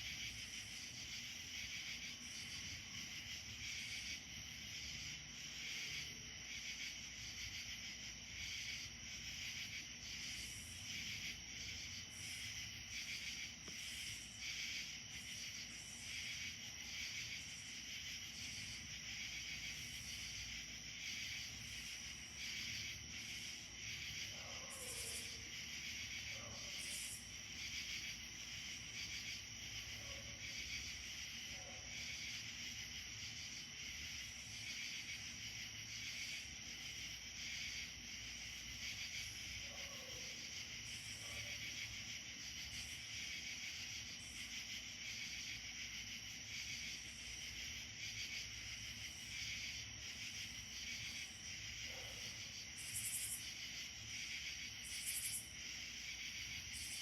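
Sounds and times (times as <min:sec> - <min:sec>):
shrill insect chorus: 0:00.0 - 0:57.0.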